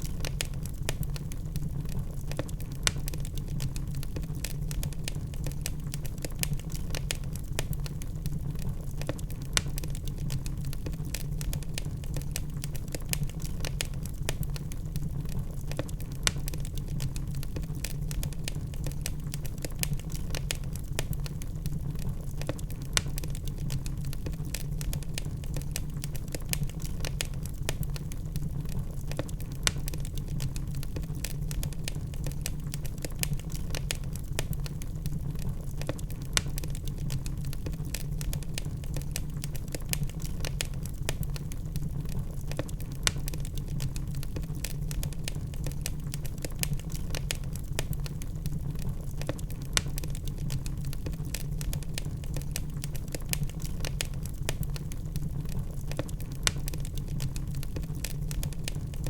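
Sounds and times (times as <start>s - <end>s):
flames rumbling: 0.0s - 59.0s
wood fire crackling: 0.0s - 59.0s.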